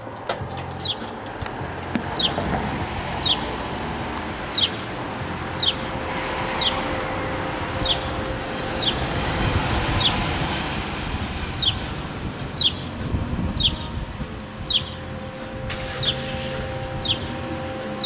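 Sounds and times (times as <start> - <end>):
low rumble of street traffic: 0.0 - 18.0
sparrow chirping: 0.6 - 1.2, 2.0 - 18.0.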